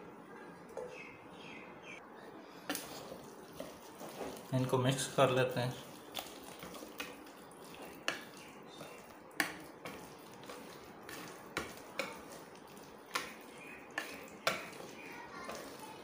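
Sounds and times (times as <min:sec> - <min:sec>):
whisk squishing batter: 0:02.7 - 0:16.0.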